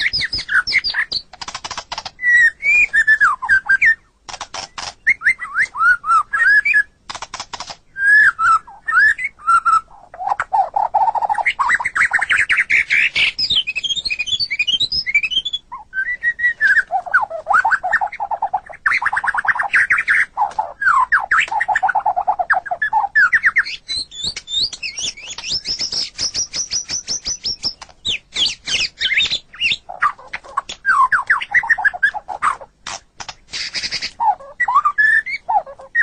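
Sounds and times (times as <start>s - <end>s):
bird whistling song: 0.0s - 1.3s, 2.1s - 7.0s, 8.0s - 32.7s, 33.5s - 36.0s.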